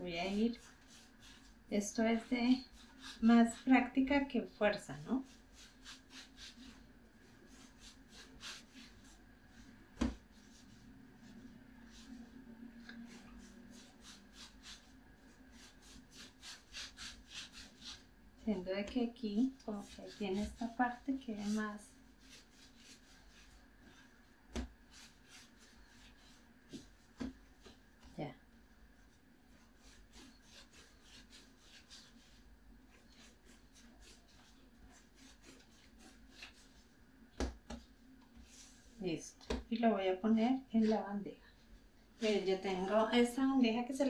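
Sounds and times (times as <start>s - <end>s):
hands rolling dough: 0.2s - 12.2s, 12.8s - 28.4s, 29.5s - 39.7s.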